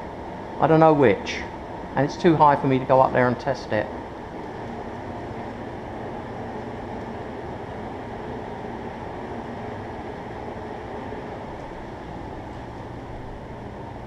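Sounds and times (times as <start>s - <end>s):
steady background rumble: 0.0s - 14.0s.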